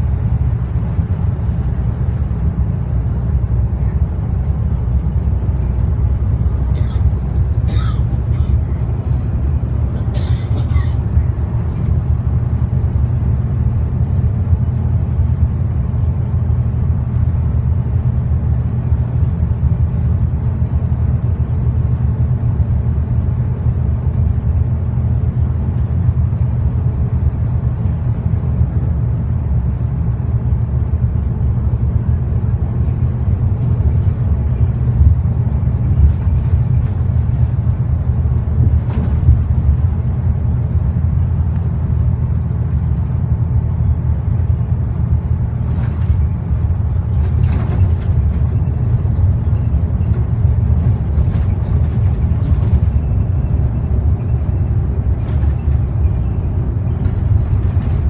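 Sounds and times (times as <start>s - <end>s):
bus diesel engine droning: 0.0s - 58.0s
road and tyre rumble: 0.0s - 58.0s.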